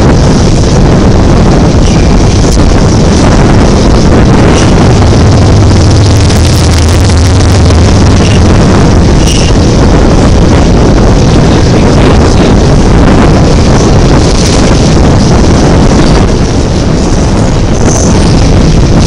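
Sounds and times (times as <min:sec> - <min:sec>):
train rumbling past: 0:00.0 - 0:19.0
wind rushing over microphone: 0:00.0 - 0:19.0.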